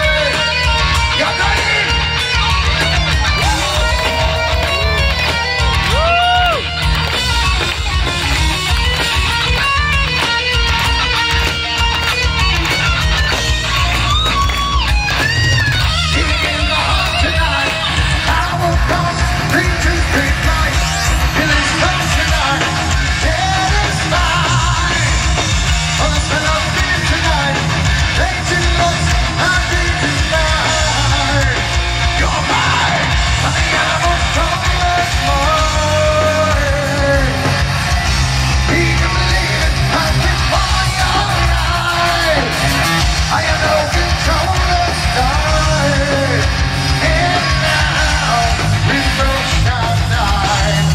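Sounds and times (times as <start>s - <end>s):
singer yelling vocals: 0.0s - 6.8s, 16.0s - 37.8s, 38.5s - 50.9s
heavy metal band playing live: 0.0s - 50.9s.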